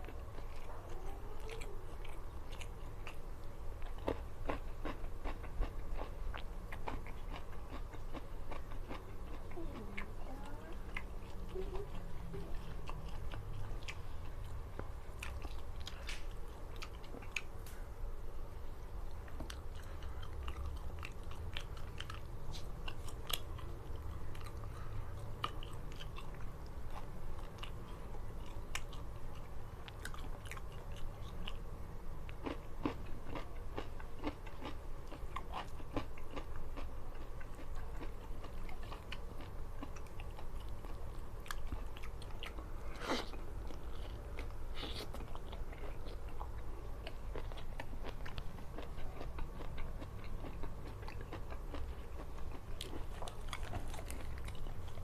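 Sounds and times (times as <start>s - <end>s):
person chewing with crunches: 0.0s - 17.8s, 18.8s - 31.6s, 32.2s - 55.0s.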